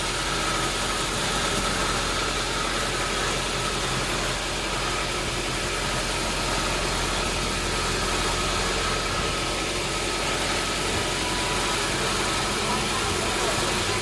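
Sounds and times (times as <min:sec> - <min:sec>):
machinery engine running: 0:00.0 - 0:14.0.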